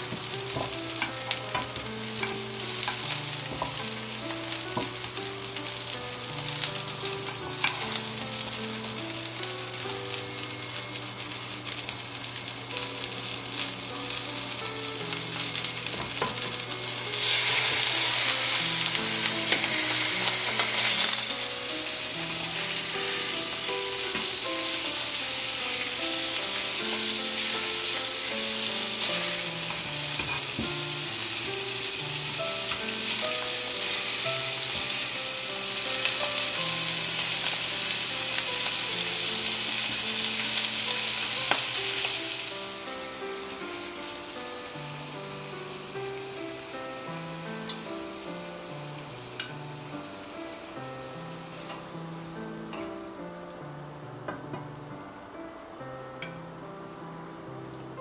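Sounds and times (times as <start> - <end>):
meat sizzling in a frying pan: 0.0 - 58.0
soft background music: 0.0 - 58.0.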